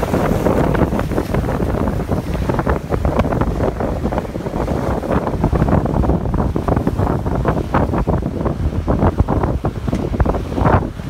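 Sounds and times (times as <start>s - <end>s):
water washing along hull: 0.0s - 11.0s
wind buffeting microphone: 0.0s - 11.0s.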